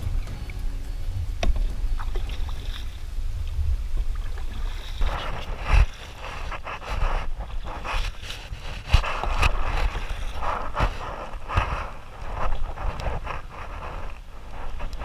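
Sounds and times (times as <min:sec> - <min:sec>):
paddle splashing in water: 0:00.0 - 0:15.0
wind rumble on microphone: 0:00.0 - 0:15.0.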